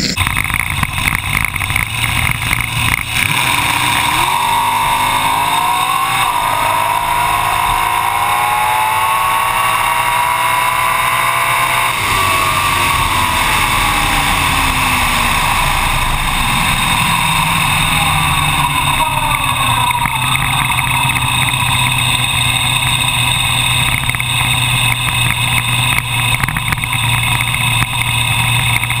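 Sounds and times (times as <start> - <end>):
dragster engine at full throttle: 0.0 - 29.0
engine idling: 0.0 - 29.0.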